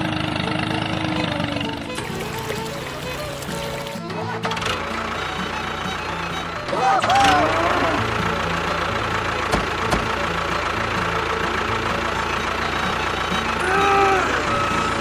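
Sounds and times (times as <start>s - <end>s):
small motor running: 0.0s - 15.0s.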